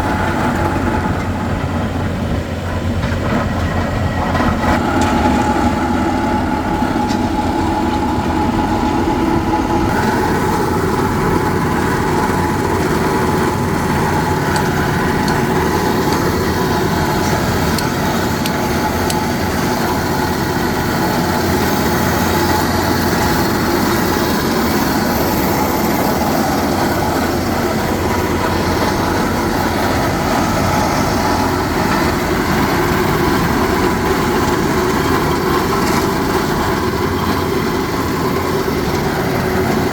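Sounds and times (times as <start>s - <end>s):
hydraulic rock drill hammering: 2.7s - 39.9s.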